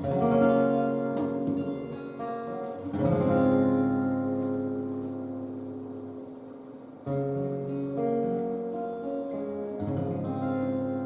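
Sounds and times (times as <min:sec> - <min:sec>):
acoustic guitar chords strummed: 0:00.0 - 0:11.0.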